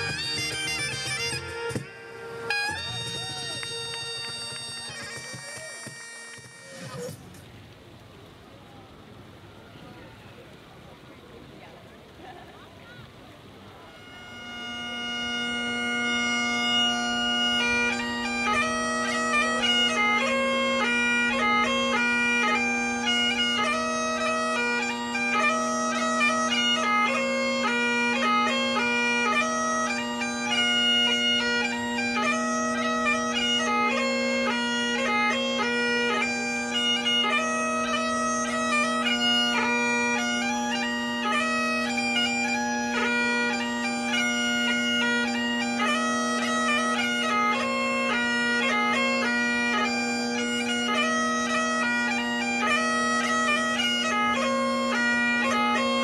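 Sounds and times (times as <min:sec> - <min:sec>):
bagpipe playing dance tune: 0:00.0 - 0:07.3, 0:13.8 - 0:56.0.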